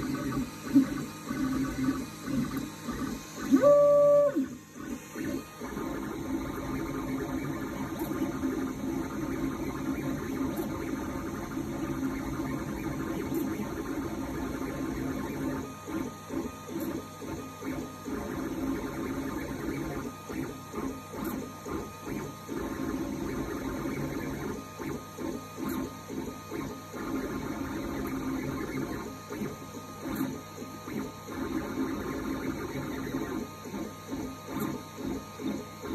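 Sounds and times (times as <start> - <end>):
print head pulsing: 0.0 - 35.9
printer motors humming: 0.0 - 35.9.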